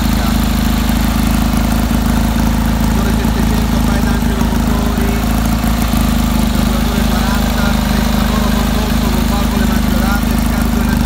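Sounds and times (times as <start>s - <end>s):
two-cylinder engine idling: 0.0s - 11.0s.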